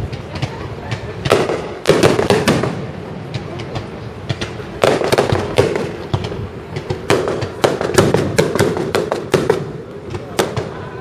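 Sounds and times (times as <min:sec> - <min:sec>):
firework shells bursting: 0:01.0 - 0:10.8.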